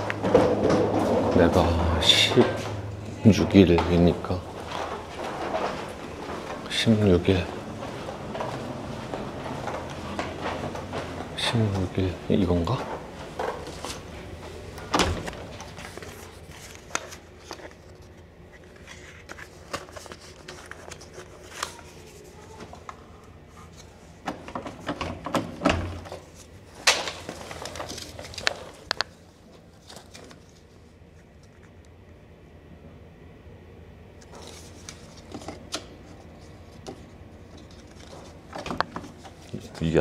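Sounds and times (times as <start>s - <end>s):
faint low building hum: 0.0s - 40.0s.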